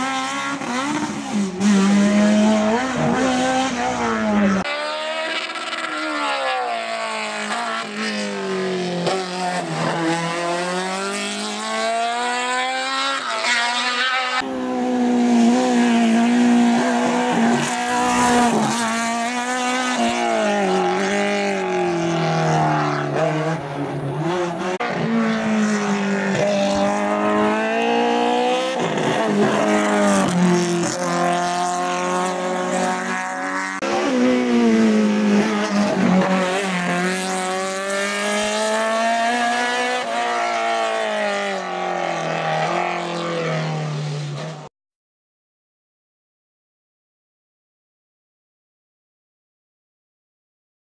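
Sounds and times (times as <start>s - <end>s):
race car engine revving hard: 0.0s - 44.6s.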